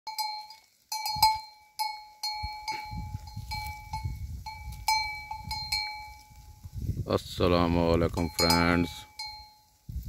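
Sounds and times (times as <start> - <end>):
animal bell clanking: 0.1 - 6.6, 8.0 - 9.9.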